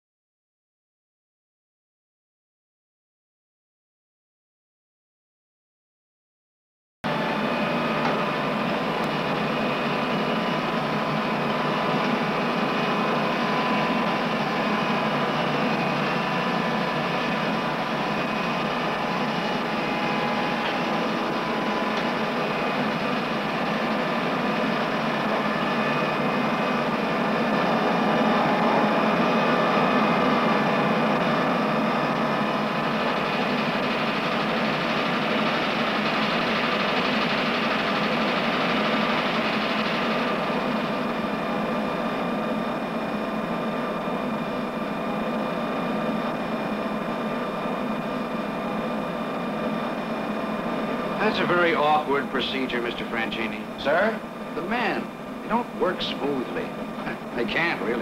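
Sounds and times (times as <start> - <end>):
machinery hum and whir: 7.1 - 58.0.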